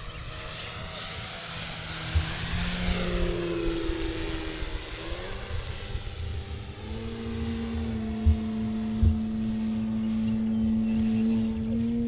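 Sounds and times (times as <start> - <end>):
electric model plane motor whining: 0.0 - 12.0.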